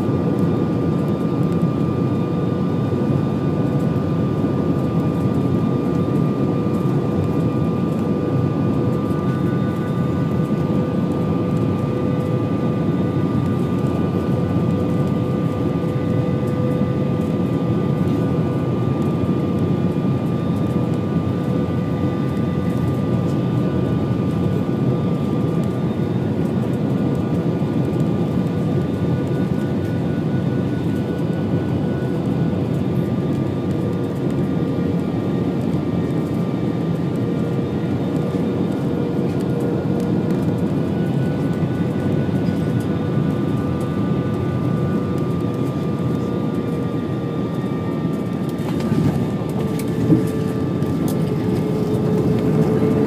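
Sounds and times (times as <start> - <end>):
airflow and jet engine noise: 0.0 - 53.0.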